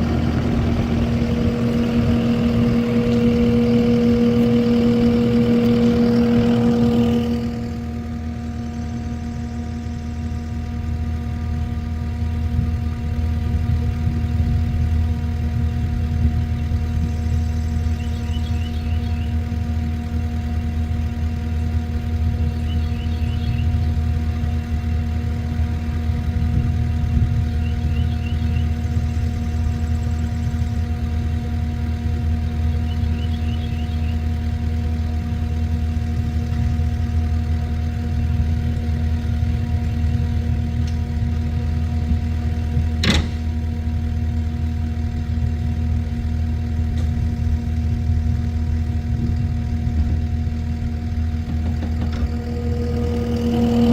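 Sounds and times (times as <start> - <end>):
large engine idling: 0.0 - 53.9.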